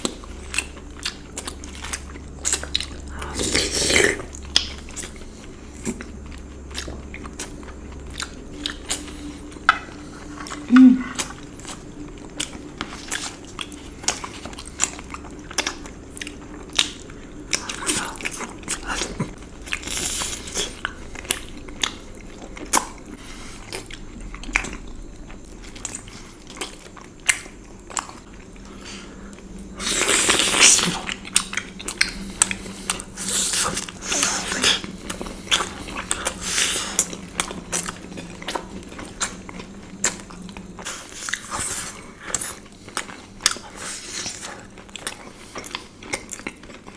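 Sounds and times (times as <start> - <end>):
person chewing sweets: 0.0 - 46.9.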